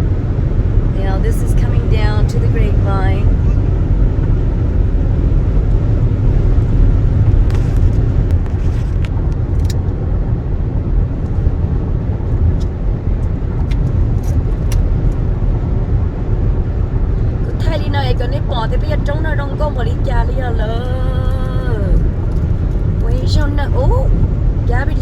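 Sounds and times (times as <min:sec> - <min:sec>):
road and engine rumble in car: 0:00.0 - 0:25.0.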